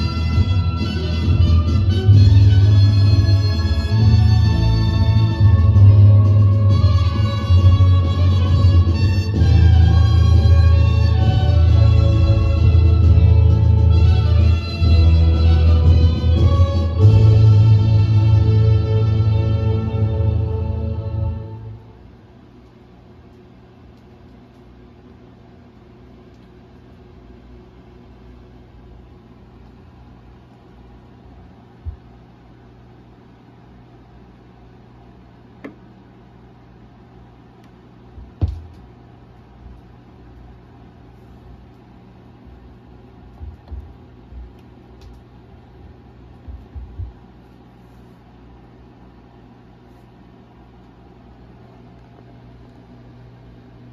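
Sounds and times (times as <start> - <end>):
record playback hum and hiss: 0.0 - 53.9.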